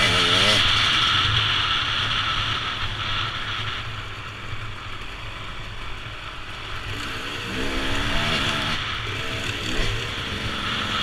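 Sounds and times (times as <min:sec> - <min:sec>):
motorbike engine thrumming and revving: 0:00.0 - 0:11.0
road and wind noise: 0:00.0 - 0:11.0.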